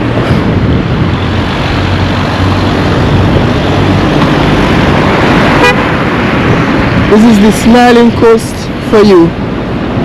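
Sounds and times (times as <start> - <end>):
vehicle engine running: 0.0 - 9.0
road noise: 0.0 - 10.0.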